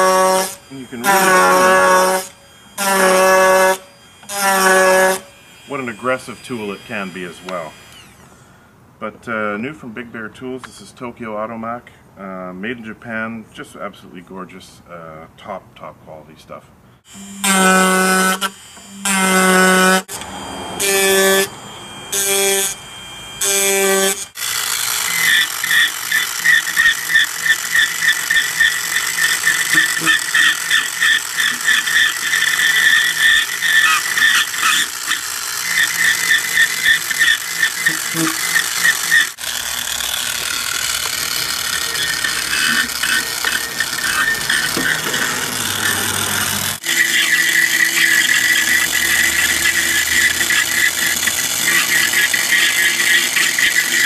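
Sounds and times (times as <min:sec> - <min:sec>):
short buzzing tones: 0:00.0 - 0:08.4, 0:17.0 - 0:54.0
power carver chiselling wood: 0:00.0 - 0:08.5, 0:17.0 - 0:54.0.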